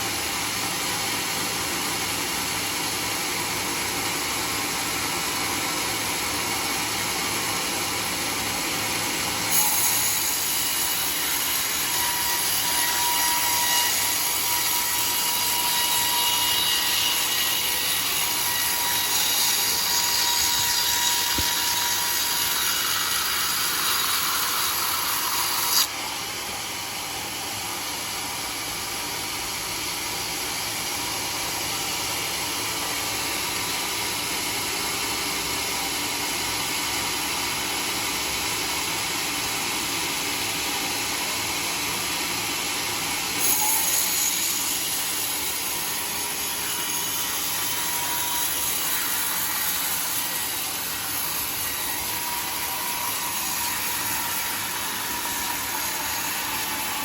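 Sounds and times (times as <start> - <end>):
saw cutting log with hiss and whine: 0.0 - 57.0
sawmill saw running: 0.0 - 57.0.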